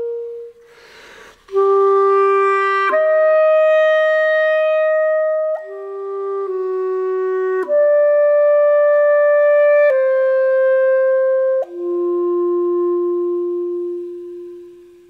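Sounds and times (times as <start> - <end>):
clarinet playing held notes: 0.0 - 15.0.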